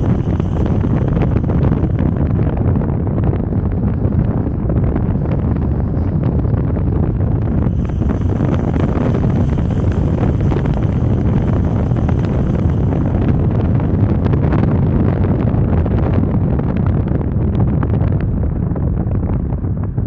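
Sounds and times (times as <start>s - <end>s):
car road noise: 0.0s - 20.0s
wind buffeting microphone: 0.0s - 20.0s.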